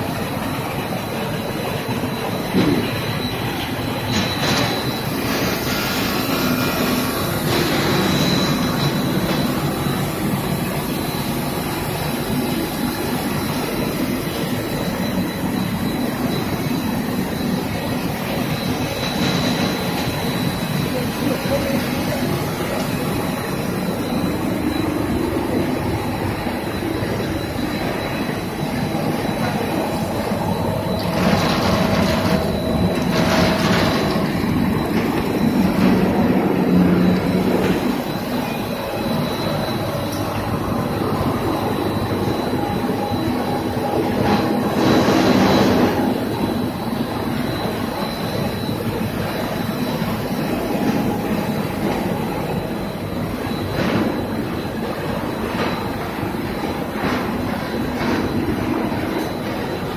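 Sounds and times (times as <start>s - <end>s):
factory machinery running: 0.0s - 59.9s
high machine whine: 0.0s - 59.9s.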